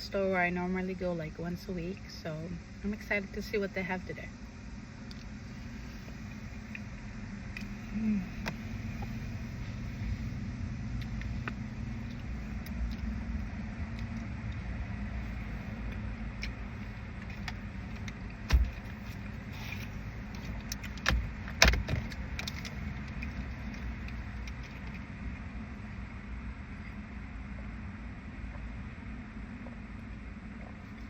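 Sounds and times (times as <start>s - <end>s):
car idling hum: 0.0s - 31.0s.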